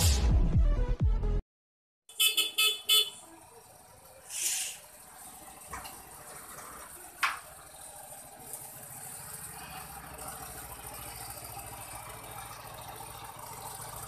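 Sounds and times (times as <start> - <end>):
motorcycle engine idling: 2.1 - 14.0.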